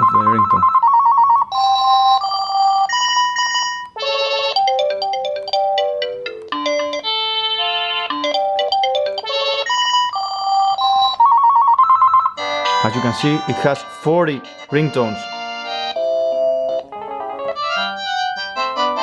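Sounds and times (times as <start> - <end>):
phone ringtones: 0.0 - 16.8.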